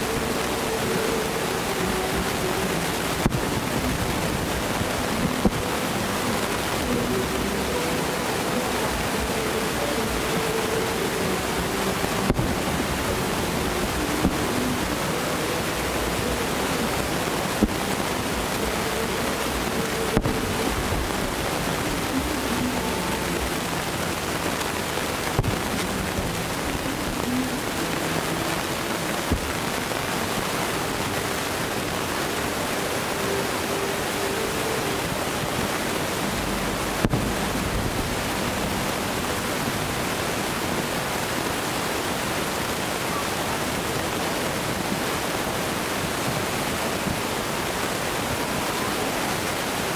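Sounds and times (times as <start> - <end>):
steady rushing noise: 0.0 - 49.9.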